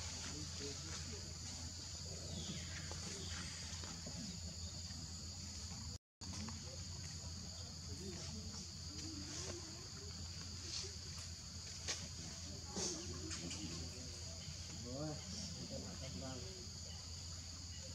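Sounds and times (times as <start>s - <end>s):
high-pitched insect chorus: 0.0s - 17.9s.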